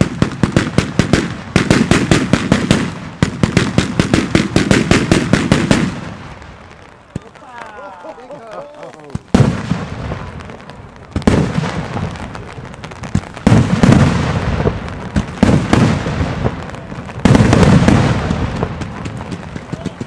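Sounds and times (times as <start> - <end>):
crackling firework pops: 0.0 - 20.0
fireworks barrage: 0.0 - 20.0.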